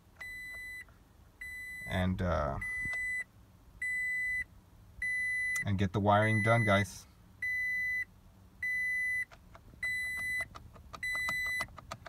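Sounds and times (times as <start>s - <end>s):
dashboard warning chime beeping: 0.2s - 12.0s.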